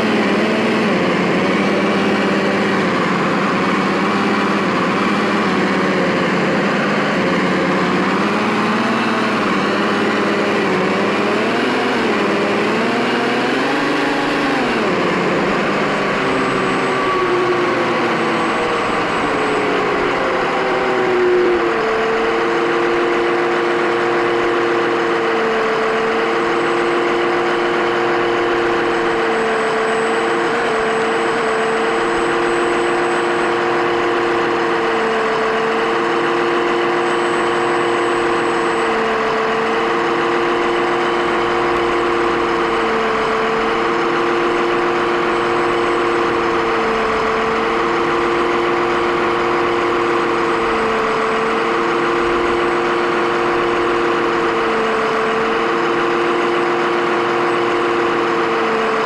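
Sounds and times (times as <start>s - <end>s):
electronic diesel engine idling: 0.0s - 59.0s.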